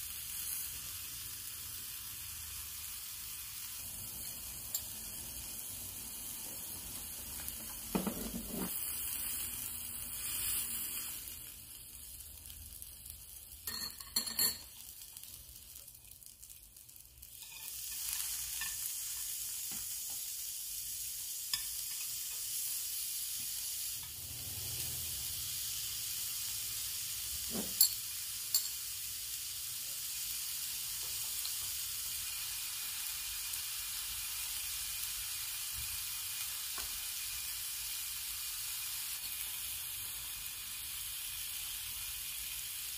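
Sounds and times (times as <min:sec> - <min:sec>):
meat sizzling on grill pan: 0:00.0 - 0:42.9.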